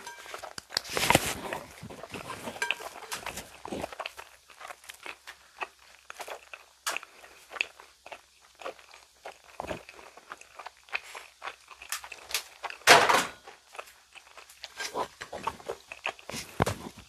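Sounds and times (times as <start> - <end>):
wet chewing mouth clicks: 0.0 - 12.8, 13.8 - 17.0.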